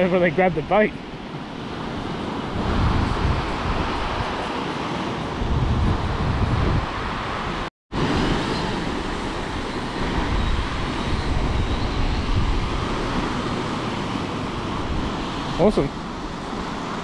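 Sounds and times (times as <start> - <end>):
breaking surf: 0.0 - 17.0
drone propeller whine: 0.0 - 17.0
wind buffeting microphone: 0.0 - 17.0.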